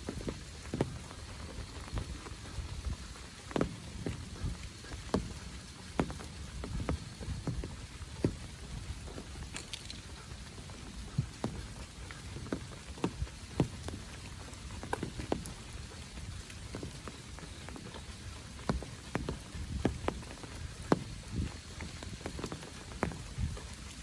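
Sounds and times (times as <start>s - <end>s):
big raindrops striking close: 0.0s - 24.0s
rain falling: 0.0s - 24.0s.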